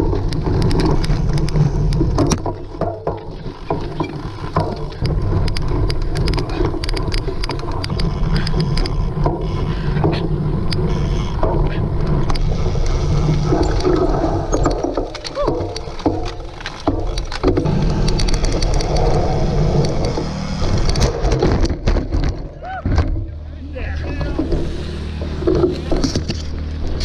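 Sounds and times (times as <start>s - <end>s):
bike rattles and clicks: 0.0s - 27.0s
bike rumbling over rough ground: 0.0s - 27.0s.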